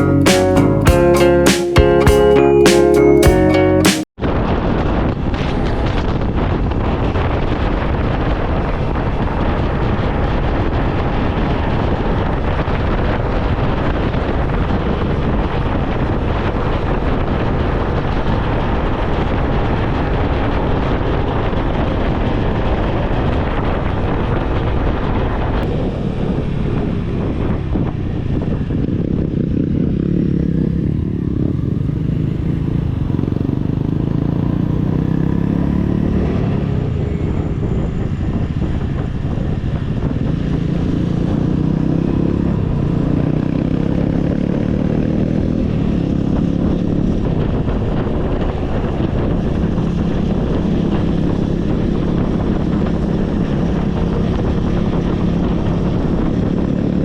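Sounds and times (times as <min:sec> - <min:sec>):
vehicle engine rumble: 0:04.2 - 0:57.0
wind rushing on microphone: 0:04.2 - 0:57.0.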